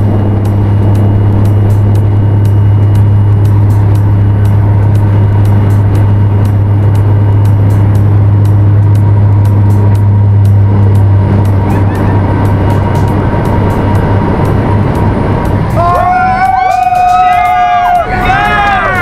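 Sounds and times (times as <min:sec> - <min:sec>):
propeller aircraft engine drone: 0:00.0 - 0:19.0
wind rushing over microphone: 0:00.0 - 0:19.0.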